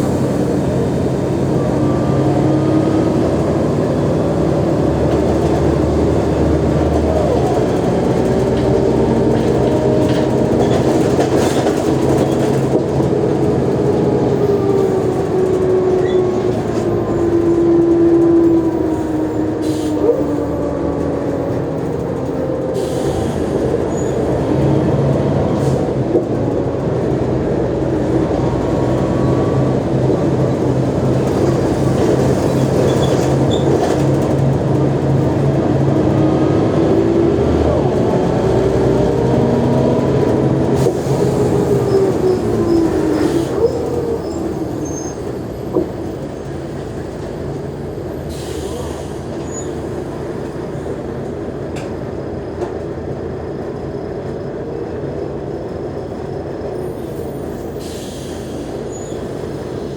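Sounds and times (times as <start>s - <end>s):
bus engine whine: 0.0s - 59.9s
low bus engine note: 0.0s - 59.9s.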